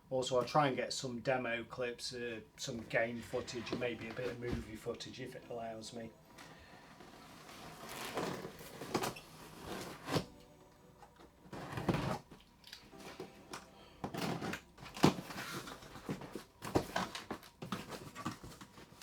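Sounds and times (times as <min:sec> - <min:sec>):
cardboard packaging rustling and scraping: 0:02.7 - 0:19.0.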